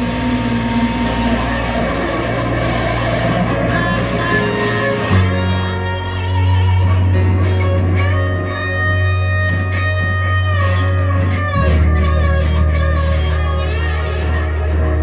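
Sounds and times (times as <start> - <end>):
electric guitar ringing notes: 0.0 - 15.0.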